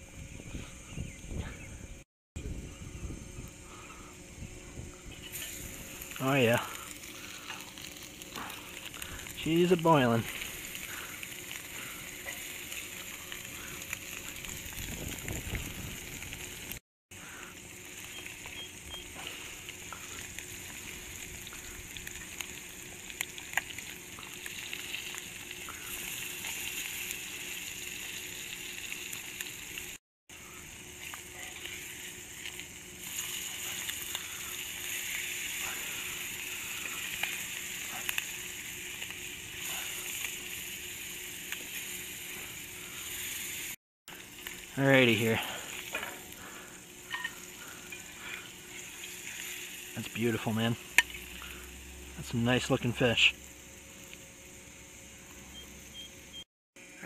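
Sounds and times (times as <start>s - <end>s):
oil crackling and popping: 5.1s - 54.6s
fish frying in oil: 5.2s - 56.9s.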